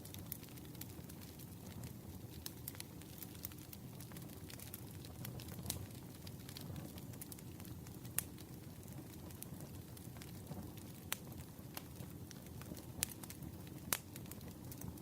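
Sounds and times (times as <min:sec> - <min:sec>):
burning wood popping: 0:00.0 - 0:15.0
campfire crackling: 0:00.0 - 0:15.0.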